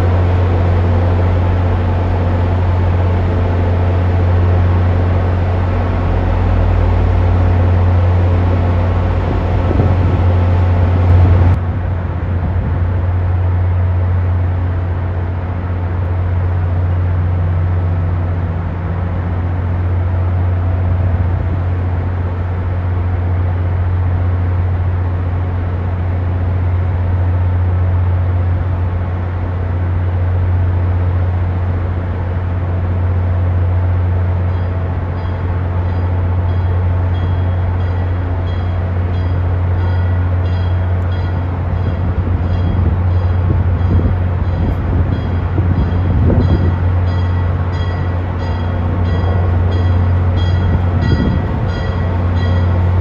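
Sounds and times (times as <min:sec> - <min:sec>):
train rumbling into station: 0:00.0 - 0:53.0.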